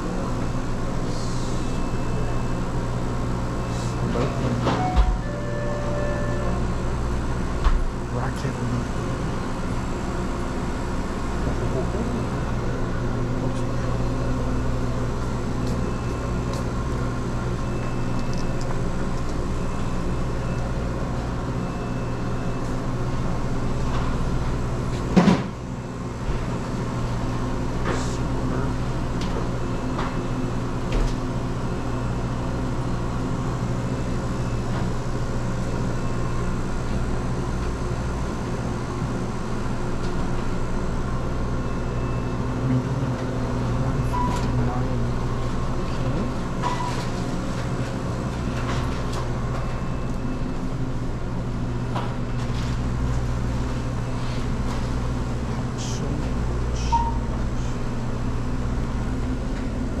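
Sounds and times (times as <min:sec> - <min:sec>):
electrical hum of machines: 0:00.0 - 1:00.0.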